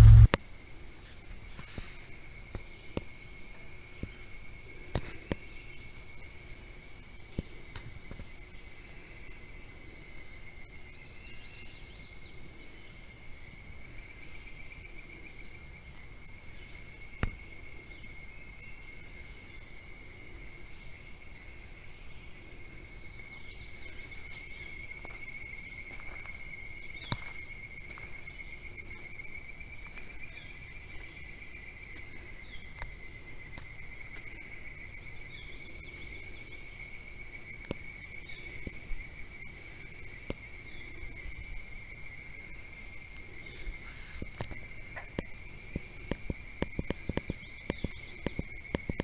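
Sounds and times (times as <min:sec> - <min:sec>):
high-pitched insect chorus: 0:00.0 - 0:49.0
faint chirps: 0:07.1 - 0:49.0.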